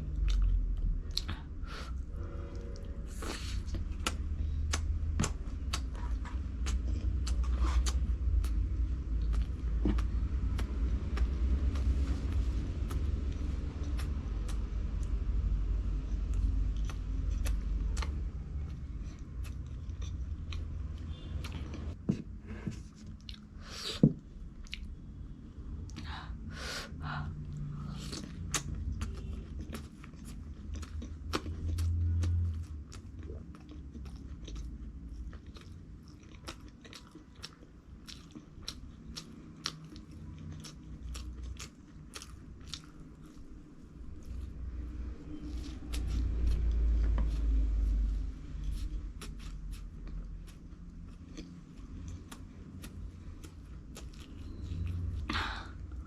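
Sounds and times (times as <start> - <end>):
person chewing crunchy food: 0.0 - 25.0, 27.4 - 56.0
low steady rumble: 0.0 - 56.0.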